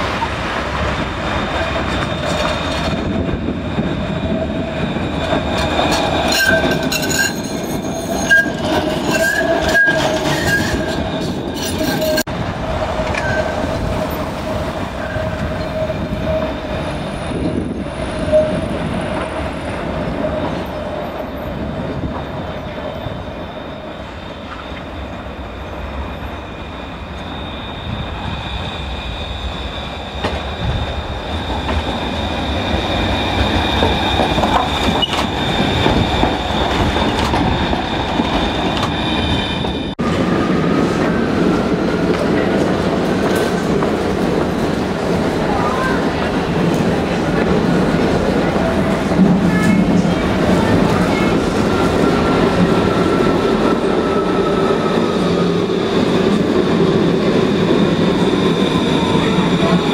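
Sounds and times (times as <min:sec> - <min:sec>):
high whine of approaching tram: 0:00.0 - 0:59.9
rumble of wheels on rail: 0:00.0 - 0:59.9
tram wheel squeal: 0:01.2 - 0:59.9.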